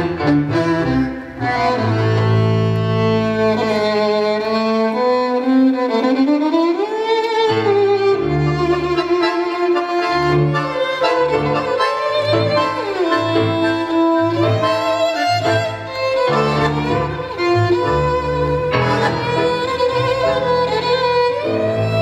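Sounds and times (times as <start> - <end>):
double bass notes: 0.0 - 5.0, 8.1 - 22.0
piano: 0.0 - 22.0
violin melody: 0.0 - 22.0.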